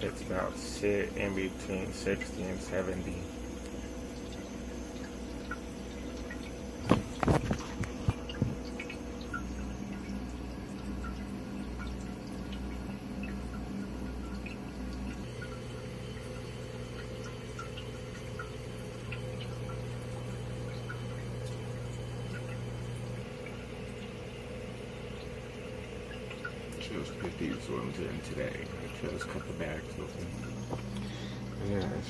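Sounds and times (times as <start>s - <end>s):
humidifier electrical hum: 0.0s - 32.0s
water dripping and trickling: 0.0s - 32.0s.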